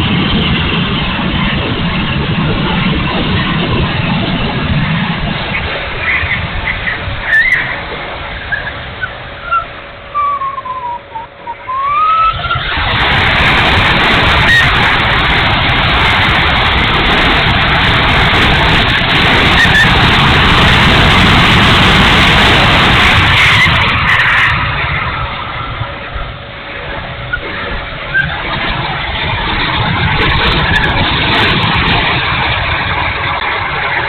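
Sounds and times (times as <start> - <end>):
model jet fan whine and rush: 0.0 - 34.0.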